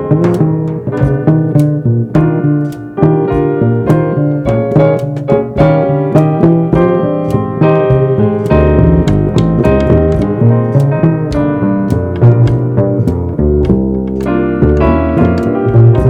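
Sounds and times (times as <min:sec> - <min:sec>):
double bass: 0:00.0 - 0:16.0
drums keeping time: 0:00.0 - 0:16.0
piano chords and melody: 0:00.0 - 0:16.0.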